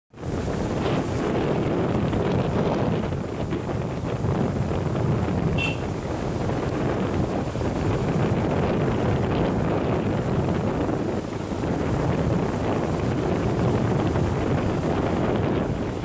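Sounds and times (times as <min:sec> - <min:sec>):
turboprop airliner engines: 0:00.1 - 0:16.0
wind buffeting microphone: 0:00.1 - 0:16.0.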